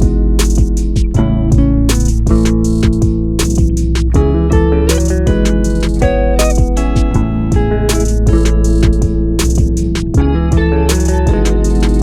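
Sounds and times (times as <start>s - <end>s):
guitar and bass music with drums: 0.0s - 12.0s.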